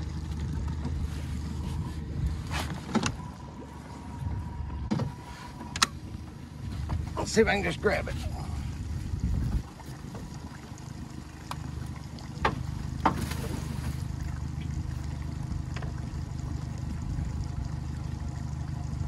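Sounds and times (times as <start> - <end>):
boat motor idling: 0.0 - 19.0.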